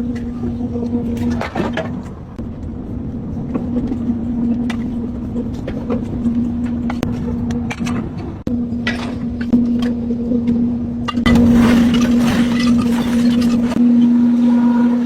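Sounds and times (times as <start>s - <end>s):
low rumble: 0.0s - 15.0s
pitched mechanical hum: 0.0s - 15.0s.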